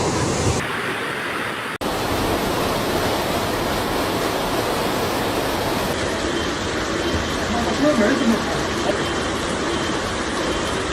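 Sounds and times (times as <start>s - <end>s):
floodwater rushing: 0.0s - 10.9s.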